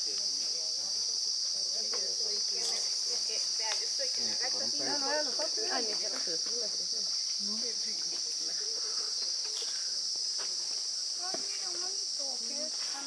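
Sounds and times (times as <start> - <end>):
faint voices: 0.0 - 13.0
insect chorus drone: 0.0 - 13.0.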